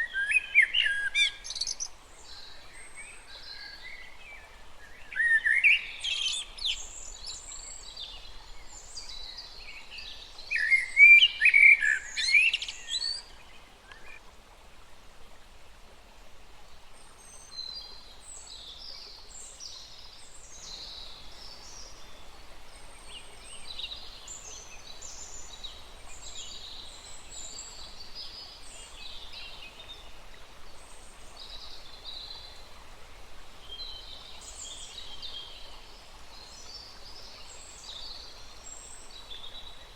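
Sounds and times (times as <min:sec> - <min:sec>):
small stream hissing: 0:00.0 - 0:39.9.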